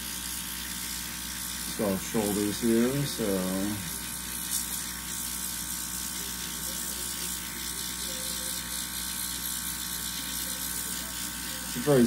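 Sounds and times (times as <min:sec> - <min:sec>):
airbrush air hissing: 0:00.0 - 0:12.0
compressor motor humming: 0:00.0 - 0:12.0.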